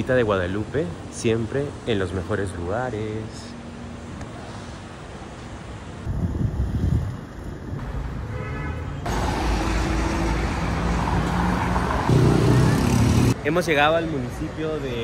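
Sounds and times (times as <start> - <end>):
traffic rumble of passing cars: 0.0 - 15.0.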